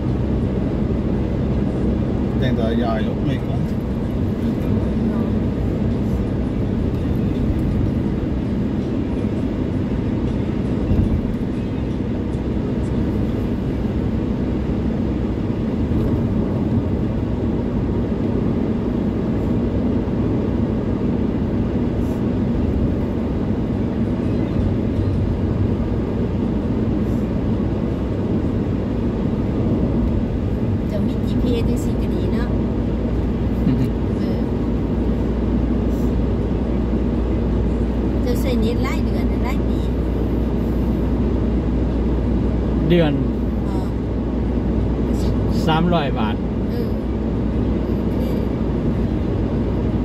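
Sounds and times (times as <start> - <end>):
car road and engine rumble: 0.0 - 50.0.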